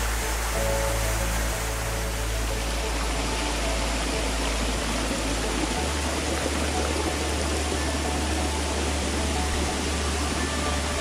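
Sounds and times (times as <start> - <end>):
soft background music: 0.0 - 11.0
waterfall and stream rushing: 0.0 - 11.0.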